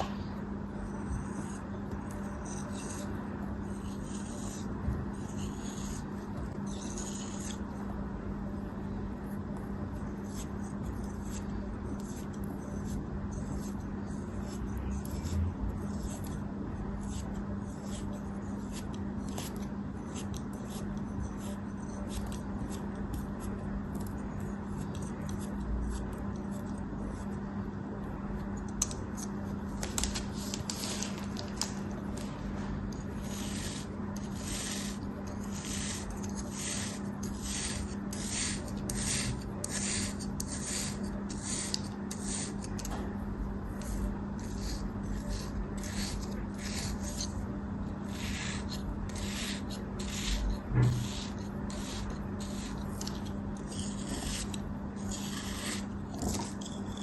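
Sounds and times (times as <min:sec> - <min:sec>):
blade cutting crumbly soap: 0:00.7 - 0:08.1, 0:09.2 - 0:27.5, 0:28.2 - 0:57.0.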